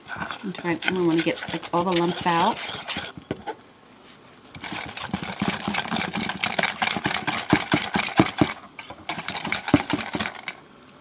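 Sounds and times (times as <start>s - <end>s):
whisk scraping metal bowl: 0.0s - 3.6s, 4.6s - 10.5s.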